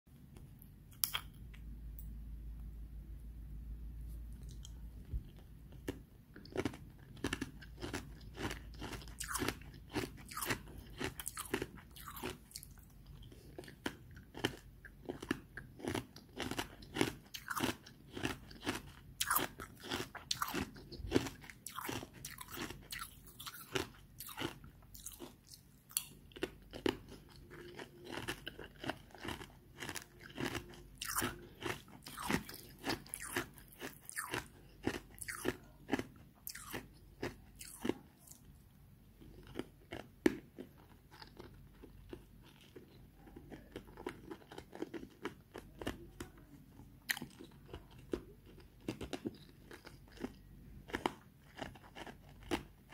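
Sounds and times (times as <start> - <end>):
chewing ice crunches: 5.3 - 38.6, 39.2 - 46.4, 47.1 - 52.9.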